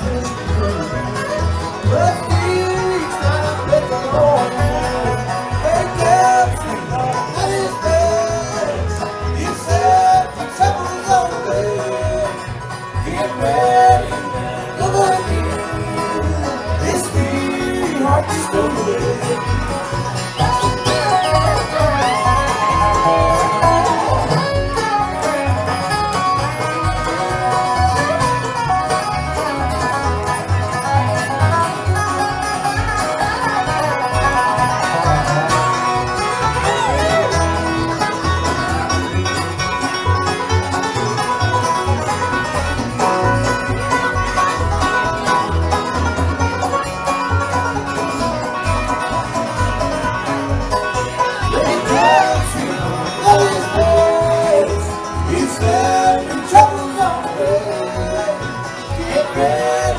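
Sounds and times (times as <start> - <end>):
banjo: 0.0 - 59.9
bluegrass string band playing: 0.0 - 59.9
dobro: 0.0 - 59.9
fiddle: 0.0 - 59.9.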